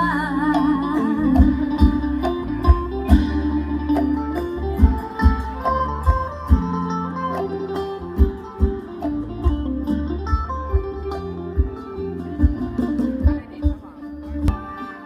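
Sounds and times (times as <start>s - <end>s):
steady bass: 0.0s - 14.9s
plucked-string melody: 0.0s - 15.0s
drum strikes: 0.6s - 15.0s.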